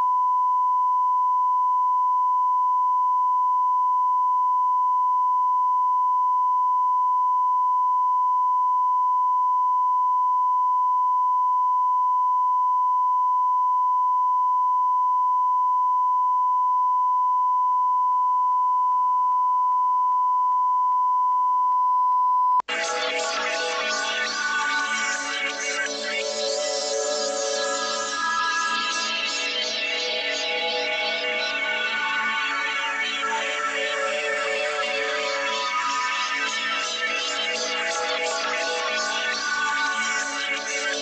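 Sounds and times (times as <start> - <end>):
television test tone: 0.0 - 41.0.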